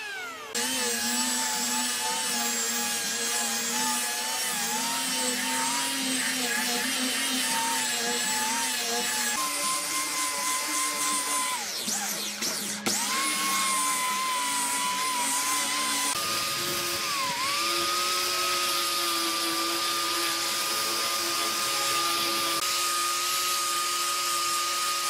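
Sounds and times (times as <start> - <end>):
angle grinder sanding wood: 0.0 - 25.0.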